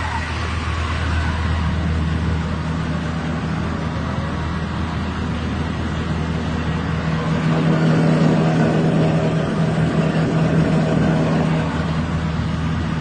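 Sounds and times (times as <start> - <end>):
rice milling machine drone: 0.0 - 13.0.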